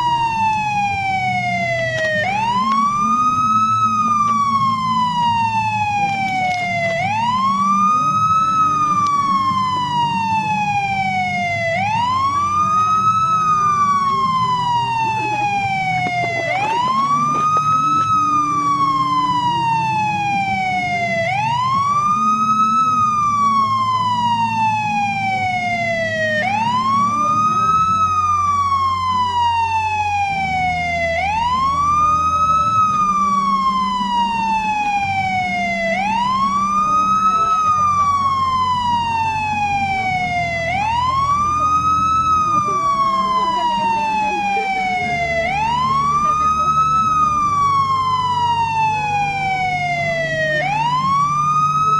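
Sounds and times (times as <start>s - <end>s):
police siren wailing: 0.0s - 51.9s.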